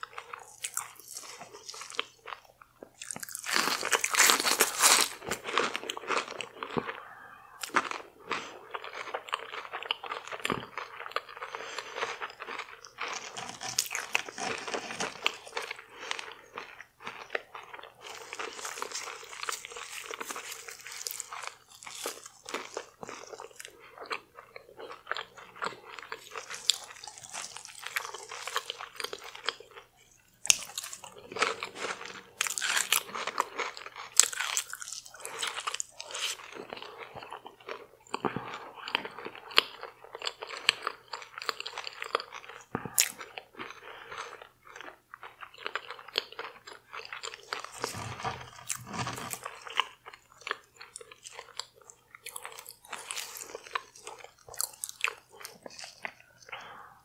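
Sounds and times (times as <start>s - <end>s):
chewing and crunching: 0.0s - 57.0s.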